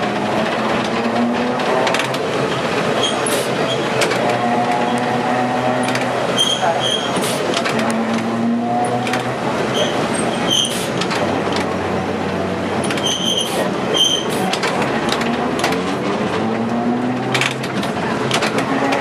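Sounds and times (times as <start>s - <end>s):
high wheel squeaks: 0.0s - 19.0s
wheels clattering over rails: 0.0s - 19.0s.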